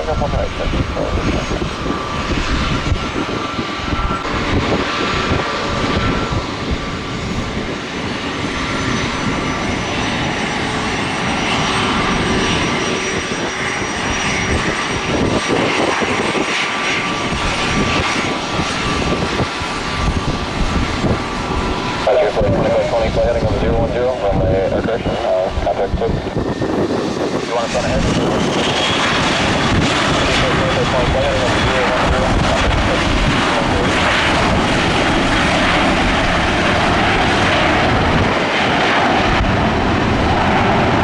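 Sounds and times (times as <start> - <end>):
jet engines running at high power: 0.0 - 41.0
wind buffeting microphone: 0.0 - 41.0.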